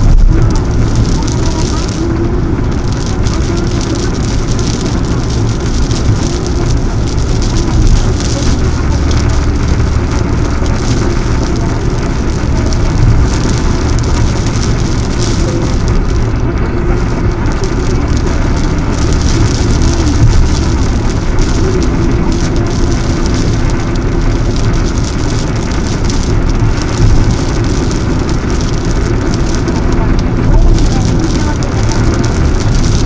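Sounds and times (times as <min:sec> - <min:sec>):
rain pattering on car windshield: 0:00.0 - 0:33.0
road and engine drone: 0:00.0 - 0:33.0
windshield wipers sweeping: 0:00.0 - 0:33.0.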